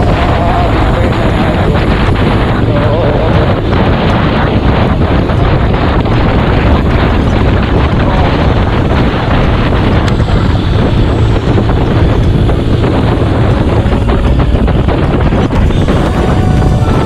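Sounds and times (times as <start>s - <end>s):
motorcycle engine running: 0.0s - 17.0s
road noise: 0.0s - 17.0s
wind rush on microphone: 0.0s - 17.0s.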